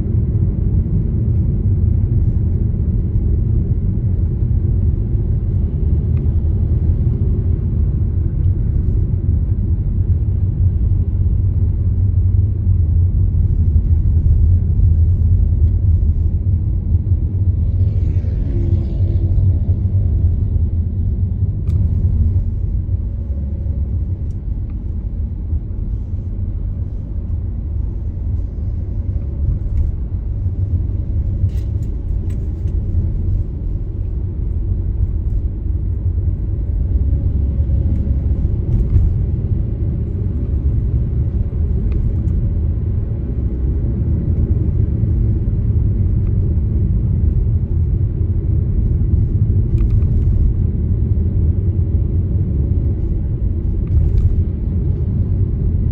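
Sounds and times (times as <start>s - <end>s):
car driving rumble: 0.0s - 55.9s.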